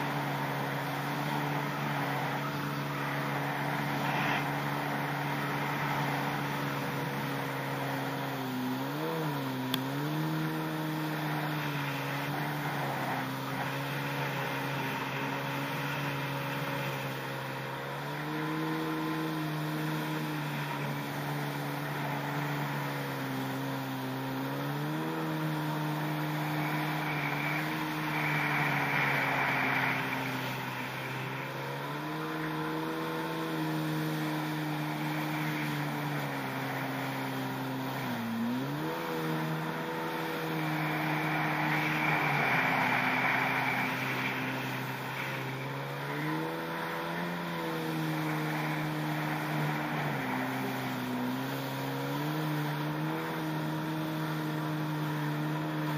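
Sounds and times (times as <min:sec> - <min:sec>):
jet ski engine: 0:00.0 - 0:55.9
rush of water and spray: 0:10.6 - 0:55.9.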